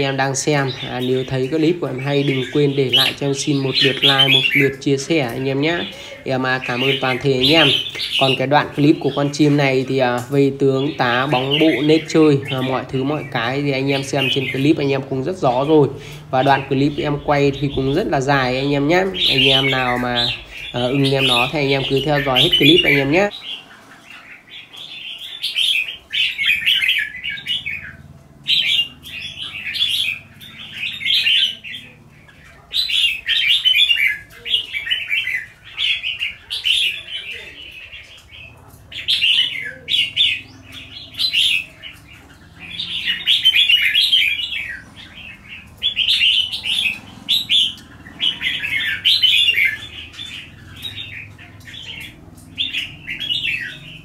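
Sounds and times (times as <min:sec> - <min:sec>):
birds singing chattering song: 0:00.0 - 0:54.0.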